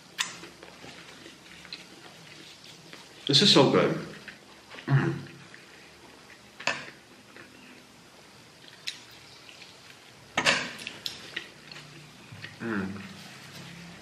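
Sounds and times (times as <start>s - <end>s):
man chewing food: 0.0s - 3.3s, 4.0s - 14.0s.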